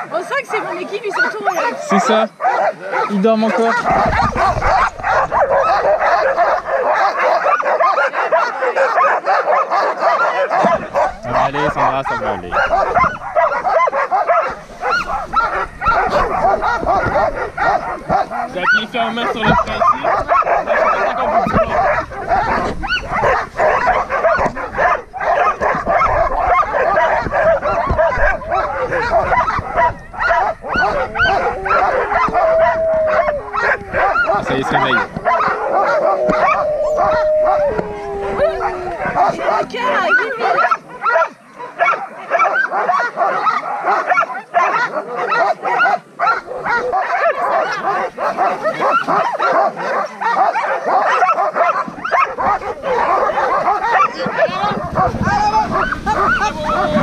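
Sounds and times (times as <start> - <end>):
sled dogs barking and whining: 0.0 - 57.0.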